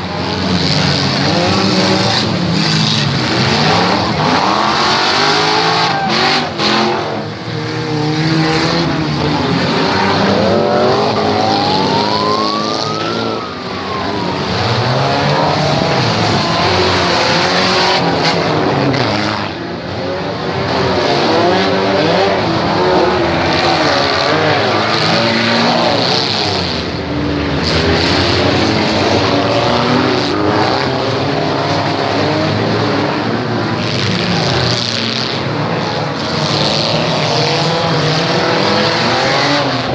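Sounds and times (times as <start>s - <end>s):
car engines revving: 0.0s - 39.9s
tyres skidding: 0.0s - 39.9s.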